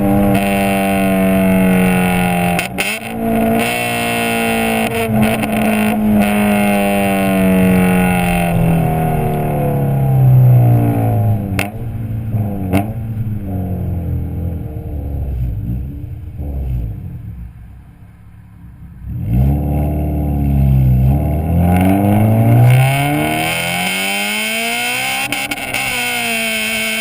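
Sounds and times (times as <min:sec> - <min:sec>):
car engine revving high: 0:00.0 - 0:17.6, 0:19.0 - 0:27.0.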